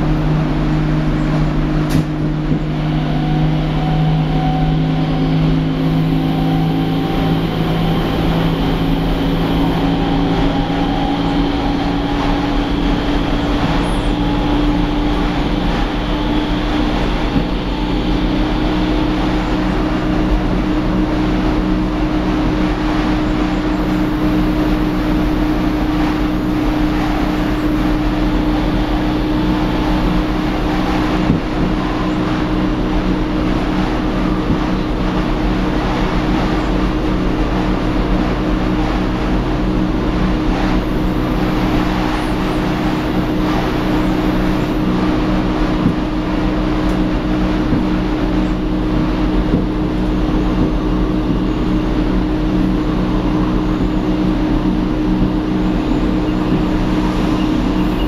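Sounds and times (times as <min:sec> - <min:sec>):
electric train drone: 0:00.0 - 0:58.0
train running noise: 0:00.0 - 0:58.0
whining tones: 0:00.0 - 0:58.0.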